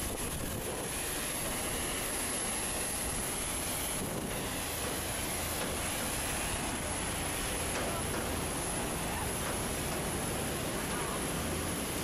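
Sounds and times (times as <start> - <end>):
jet aircraft rumble and hiss: 0.0 - 12.0.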